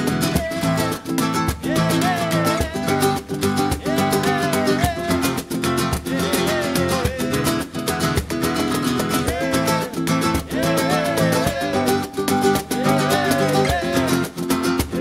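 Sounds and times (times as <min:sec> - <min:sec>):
background music with guitar and beat: 0:00.0 - 0:15.0.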